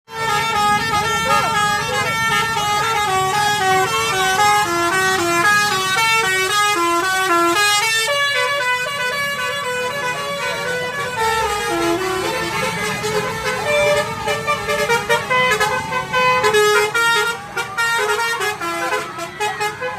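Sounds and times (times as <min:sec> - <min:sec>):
multi-tone air horn tune: 0:00.1 - 0:19.9.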